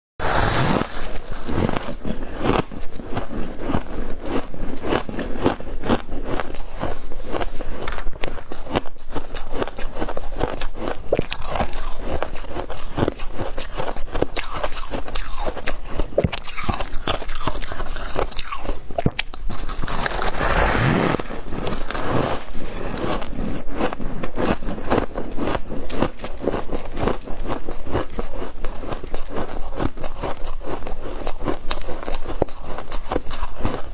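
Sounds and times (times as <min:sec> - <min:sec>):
chewing frost crunches: 0:00.2 - 0:33.9.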